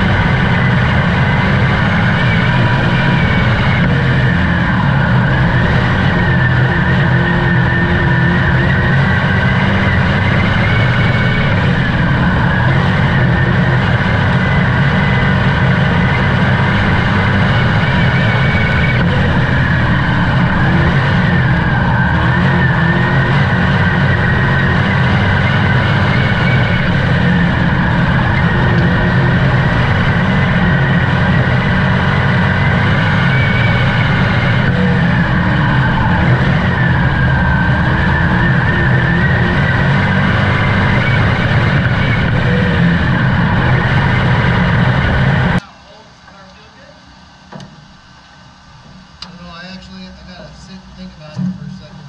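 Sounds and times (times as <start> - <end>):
race car engine revving: 0.0 - 45.6.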